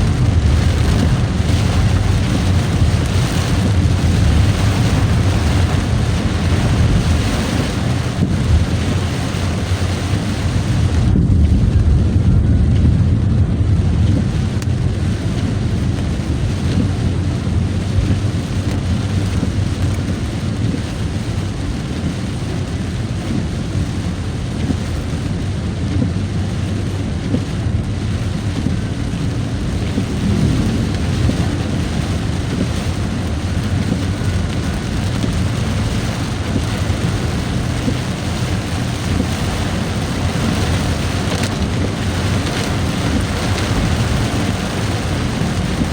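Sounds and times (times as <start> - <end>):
rain hissing: 0.0 - 45.9
road noise while driving: 0.0 - 45.9.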